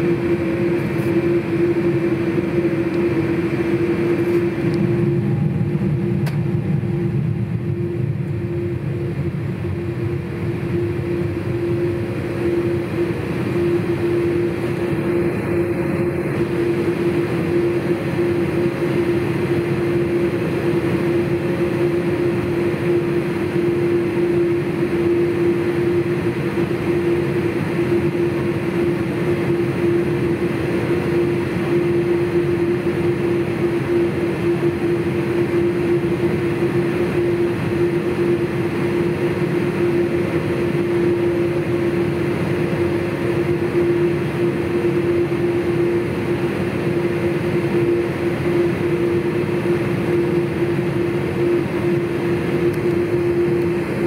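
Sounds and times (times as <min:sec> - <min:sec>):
aircraft cabin rumble: 0:00.0 - 0:54.0
steady engine tone: 0:00.0 - 0:54.0.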